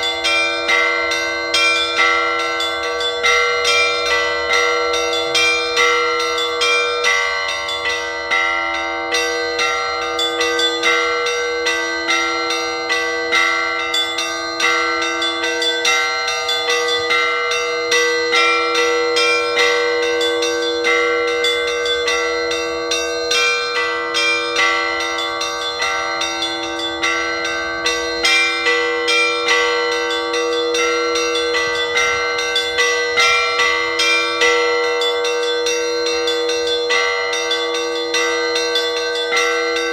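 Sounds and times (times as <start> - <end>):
deep bell tone: 0.0 - 39.9.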